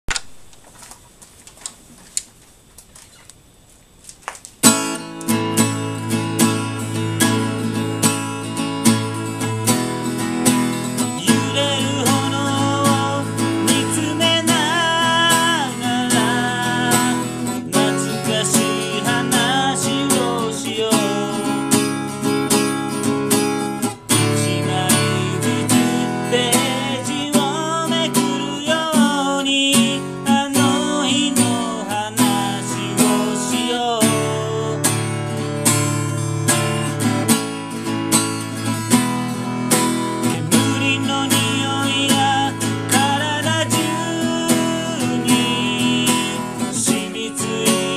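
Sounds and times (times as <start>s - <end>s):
strummed acoustic guitar song: 4.6s - 47.9s.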